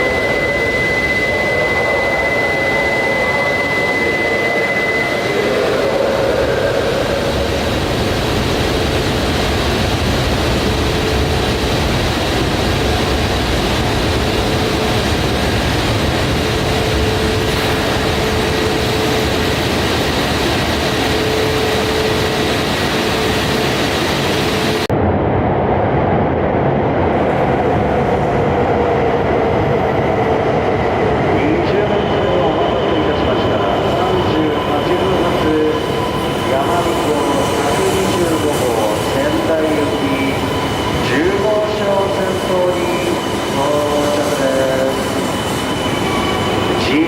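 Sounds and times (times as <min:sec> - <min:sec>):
faint train whine: 0:00.0 - 0:47.0
train rumbling past: 0:00.0 - 0:47.0.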